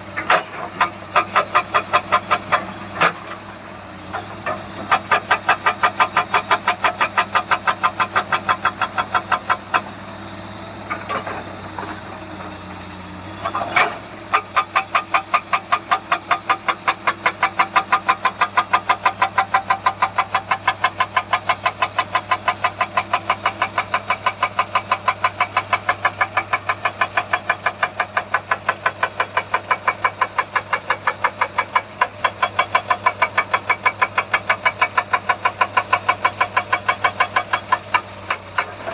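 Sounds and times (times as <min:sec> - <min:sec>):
hydraulic breaker hammering rock: 0:00.0 - 0:10.1, 0:13.4 - 0:38.9
diesel engine running: 0:00.0 - 0:38.9.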